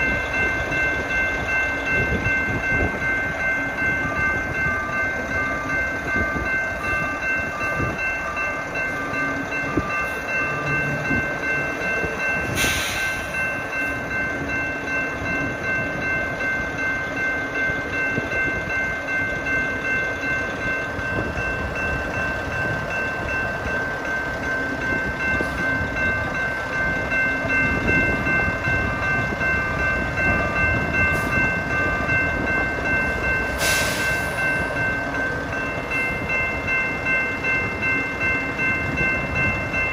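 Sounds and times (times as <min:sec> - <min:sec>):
crossing warning bell ringing: 0:00.0 - 0:39.9.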